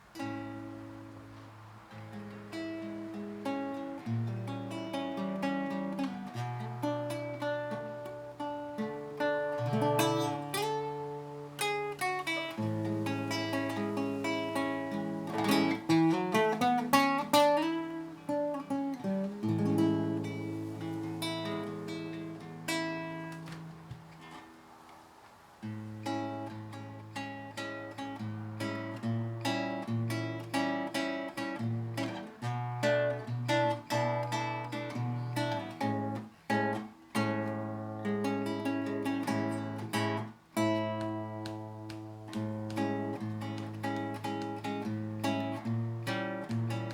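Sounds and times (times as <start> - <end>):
acoustic plucked string music: 0.0 - 46.9.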